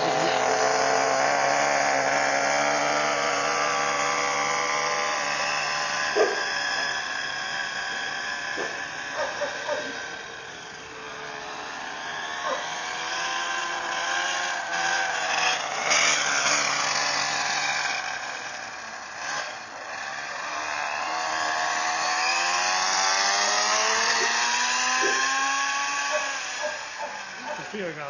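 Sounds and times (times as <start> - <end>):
toy car motor running: 0.0 - 28.0.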